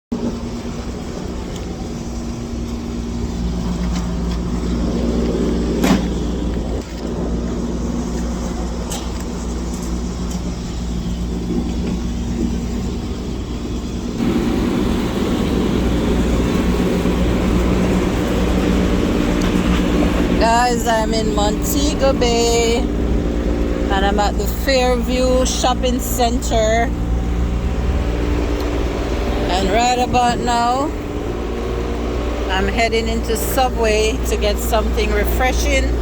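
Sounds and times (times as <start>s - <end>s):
road vehicle low rumble: 0.0s - 36.0s.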